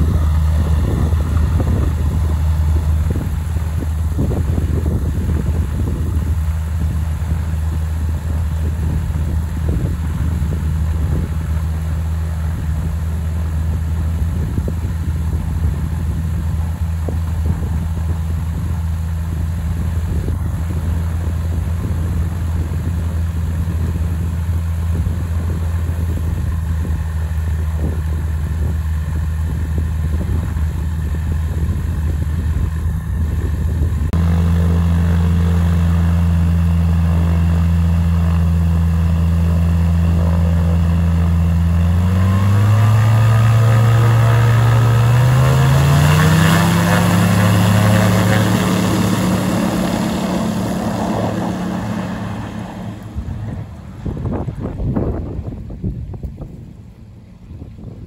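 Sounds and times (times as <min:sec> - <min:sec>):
seaplane engine revving: 0:00.0 - 0:58.0.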